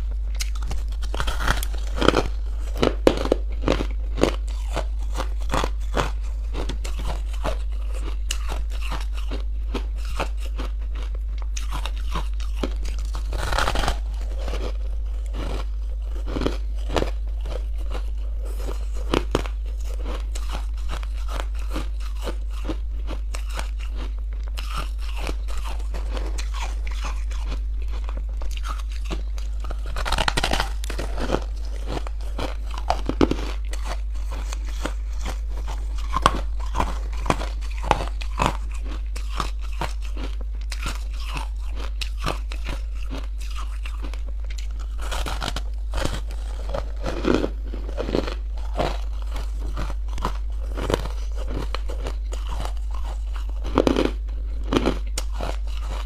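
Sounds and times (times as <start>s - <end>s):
chewing ice crunching: 0.0s - 56.0s.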